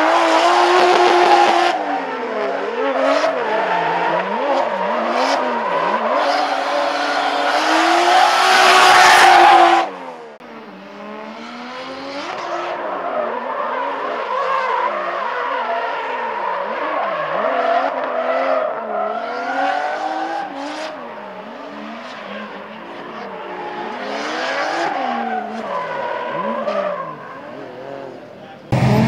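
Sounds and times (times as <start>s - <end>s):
car engine revving: 0.0s - 14.2s, 16.0s - 29.0s.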